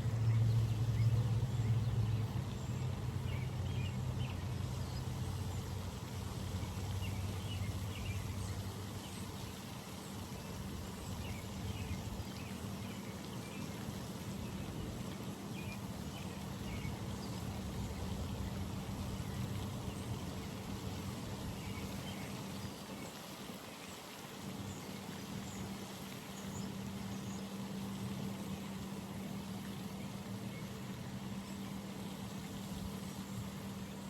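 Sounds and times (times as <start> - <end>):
constant hum: 0.0 - 34.0.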